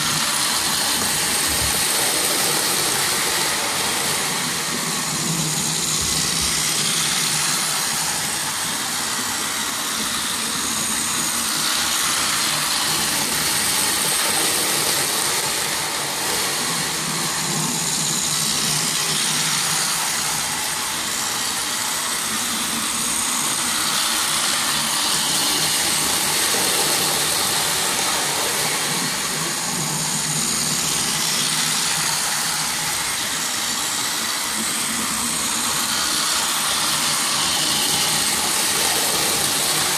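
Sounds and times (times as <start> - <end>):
toy train motor whir: 0.0 - 39.9.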